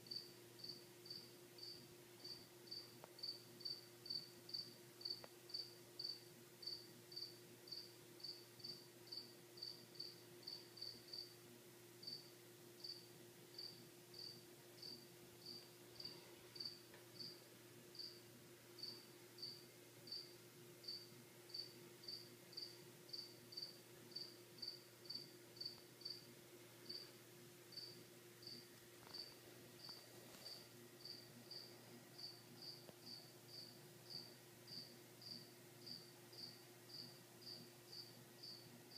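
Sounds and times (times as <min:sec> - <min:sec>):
cricket chirping: 0:00.0 - 0:11.4, 0:12.0 - 0:17.4, 0:18.0 - 0:18.2, 0:18.8 - 0:26.3, 0:26.9 - 0:27.1, 0:27.7 - 0:38.7
faint steady hum: 0:00.0 - 0:38.9.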